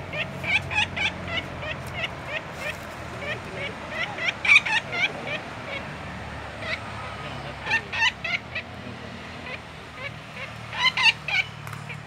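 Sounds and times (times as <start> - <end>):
woodpecker distress calls: 0.0 - 8.8, 9.4 - 12.0.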